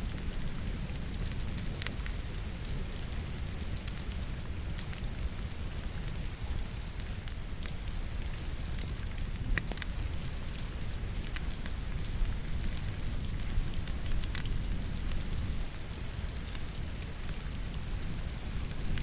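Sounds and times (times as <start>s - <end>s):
fire crackling and popping: 0.0s - 19.0s
rain falling: 0.0s - 19.0s.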